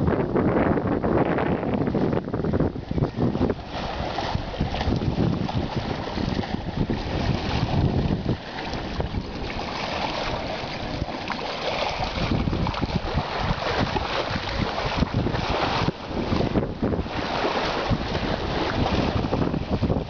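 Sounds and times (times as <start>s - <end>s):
wind buffeting microphone: 0.0s - 20.0s
waves washing over rocks: 1.6s - 20.0s.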